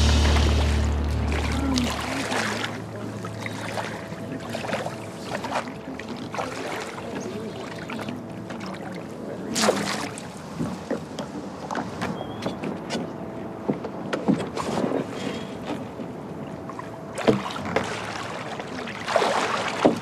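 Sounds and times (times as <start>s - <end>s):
shallow water splashing: 0.0s - 12.1s, 13.9s - 20.0s.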